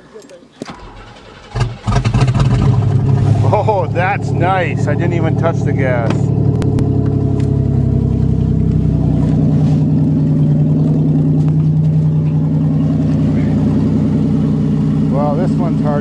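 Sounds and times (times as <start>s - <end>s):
car engine idling: 0.7s - 16.0s.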